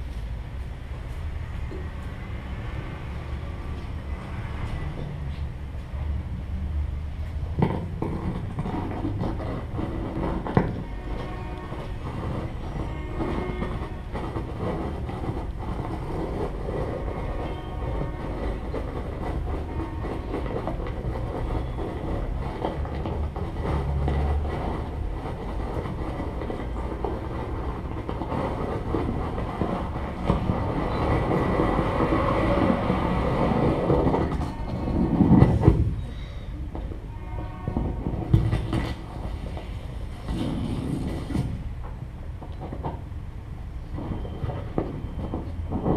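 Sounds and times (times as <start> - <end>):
amplified plant crackling and scraping: 7.2 - 45.9.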